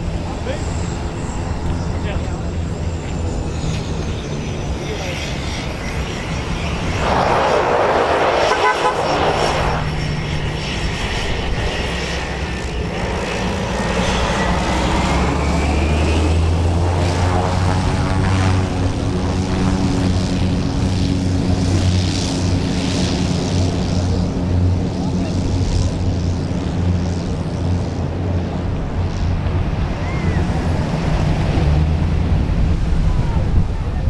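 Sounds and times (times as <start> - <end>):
turboprop engine droning: 0.0 - 34.0.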